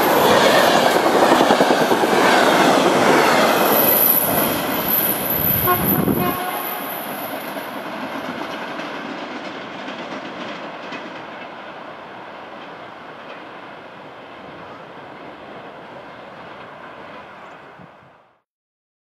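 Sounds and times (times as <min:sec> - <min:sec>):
train wheels rumbling on rails: 0:00.0 - 0:18.1.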